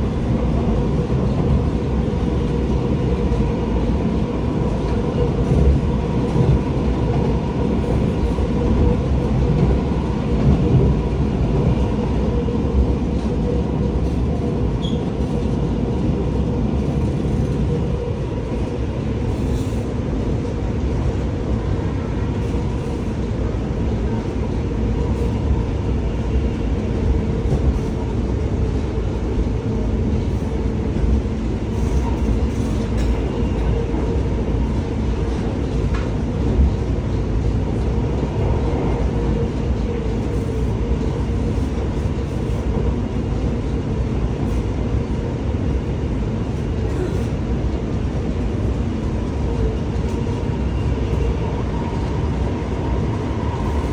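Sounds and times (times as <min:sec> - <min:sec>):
constant train hum: 0:00.0 - 0:53.9
train wheels rumbling on rail: 0:00.0 - 0:53.9.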